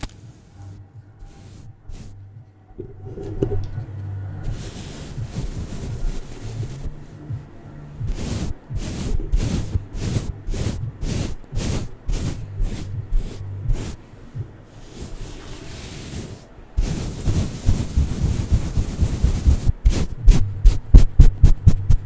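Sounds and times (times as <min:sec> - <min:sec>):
tape rubbed on microphone: 0:00.0 - 0:02.2, 0:02.8 - 0:22.0.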